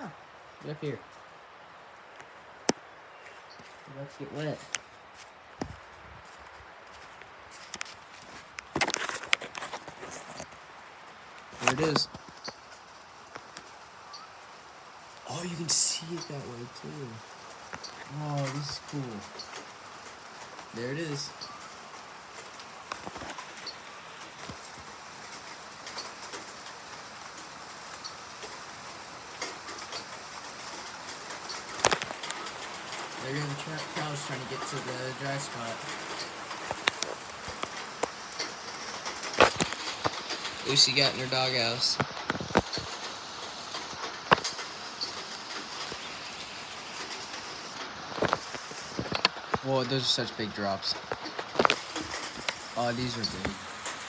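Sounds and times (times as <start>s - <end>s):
raindrop ticks: 0.0s - 5.8s, 6.4s - 54.0s
rain hiss: 0.0s - 54.0s.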